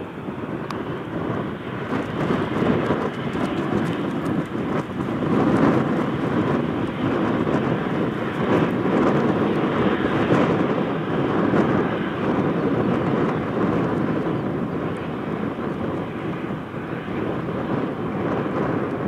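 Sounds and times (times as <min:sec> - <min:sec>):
airliner engine rumble: 0:00.0 - 0:19.0.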